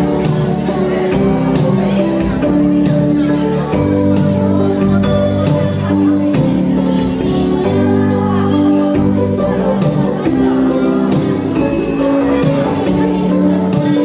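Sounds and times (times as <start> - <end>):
christmas song with percussion: 0.0 - 14.0.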